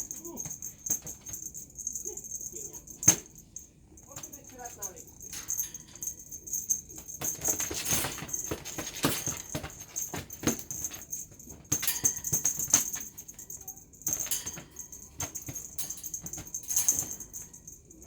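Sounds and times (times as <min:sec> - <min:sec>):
kittens scrabbling and rustling: 0:00.0 - 0:18.0
light rattling jingle: 0:00.0 - 0:18.0.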